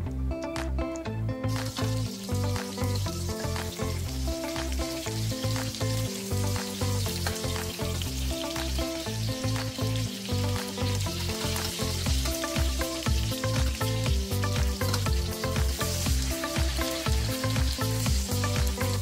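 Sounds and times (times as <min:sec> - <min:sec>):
background music: 0:00.0 - 0:19.0
fish fillets sizzling in a pan: 0:01.5 - 0:19.0.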